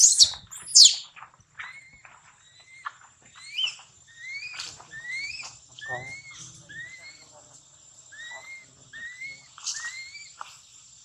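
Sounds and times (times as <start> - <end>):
baby monkey squealing: 0.0 - 7.2, 8.1 - 10.4.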